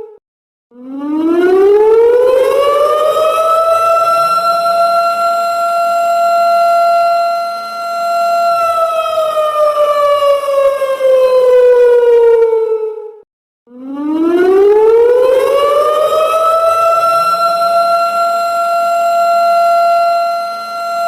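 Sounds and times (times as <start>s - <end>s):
siren wailing slowly: 0.0s - 21.0s.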